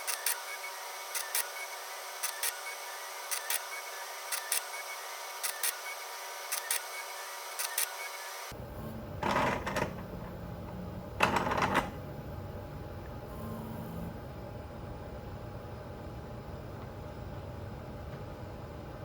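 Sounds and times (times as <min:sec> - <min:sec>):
steady mechanical whine: 0:00.0 - 0:19.0.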